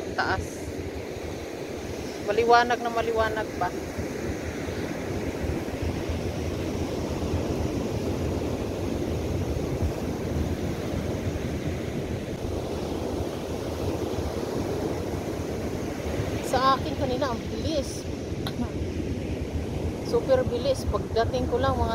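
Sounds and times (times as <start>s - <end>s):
ocean surf breaking: 0.0s - 21.9s
wind on microphone: 0.0s - 21.9s.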